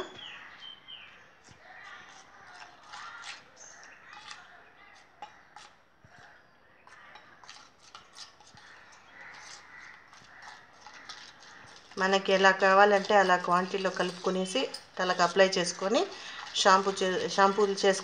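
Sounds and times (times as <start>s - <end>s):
metal spoon scraping steel bowl: 1.7s - 5.8s, 6.9s - 18.0s.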